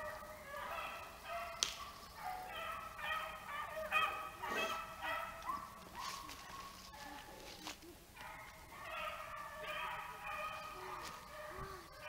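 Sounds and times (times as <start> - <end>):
hounds baying: 0.0 - 7.6, 8.2 - 12.0.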